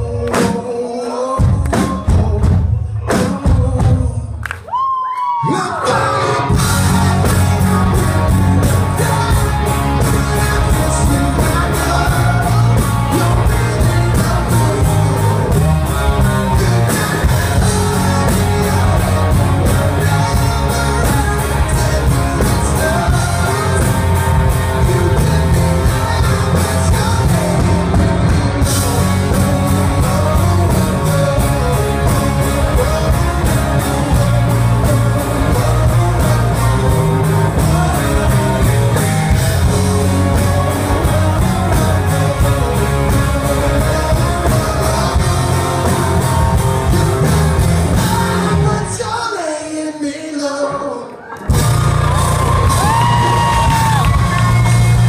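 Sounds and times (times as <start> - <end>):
man singing: 0.0 - 51.3.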